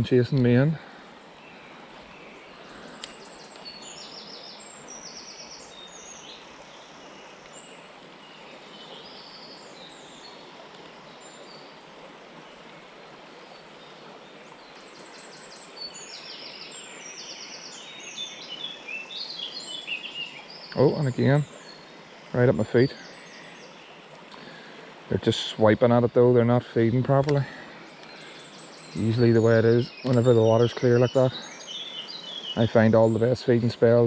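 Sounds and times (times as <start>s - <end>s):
small birds singing and chirping: 0.0s - 34.0s
steady outdoor hiss: 0.0s - 34.0s.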